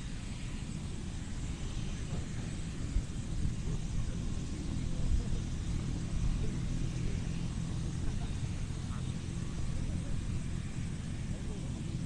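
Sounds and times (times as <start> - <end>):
helicopter rotor and turbine rumble: 0.0 - 12.0.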